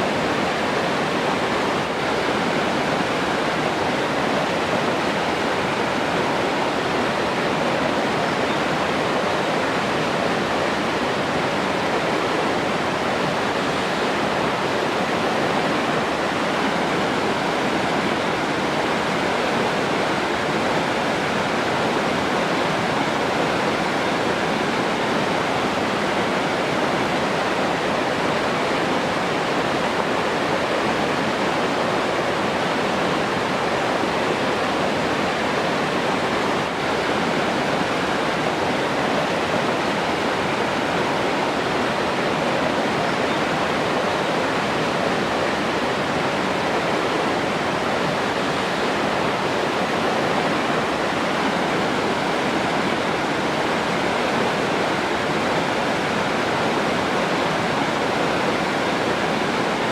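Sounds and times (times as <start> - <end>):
rushing flowing water: 0.0 - 59.9.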